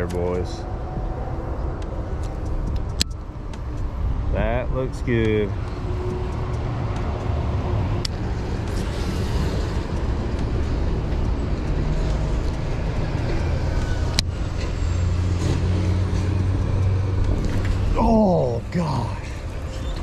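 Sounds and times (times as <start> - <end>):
highway traffic rumble: 0.0 - 20.0.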